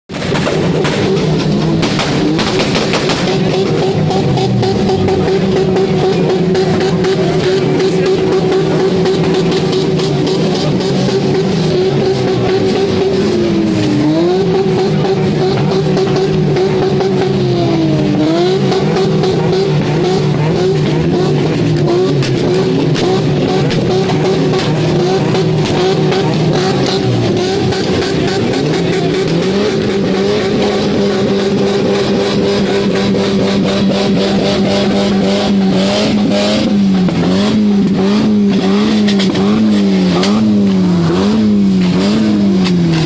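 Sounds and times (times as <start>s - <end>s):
car engine revving: 0.1s - 43.0s.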